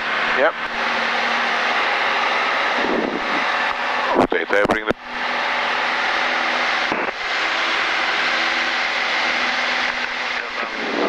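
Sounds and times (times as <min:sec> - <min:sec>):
light aircraft engine running: 0:00.0 - 0:11.0.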